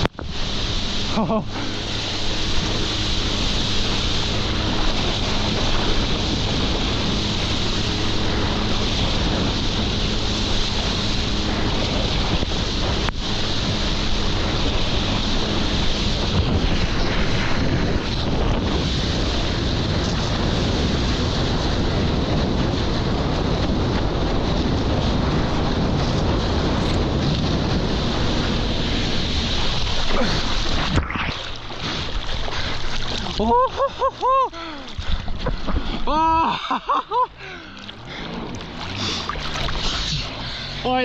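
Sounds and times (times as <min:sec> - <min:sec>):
jet ski engine hum: 0:00.0 - 0:41.0
water rushing: 0:00.0 - 0:41.0
wind buffeting microphone: 0:00.0 - 0:41.0.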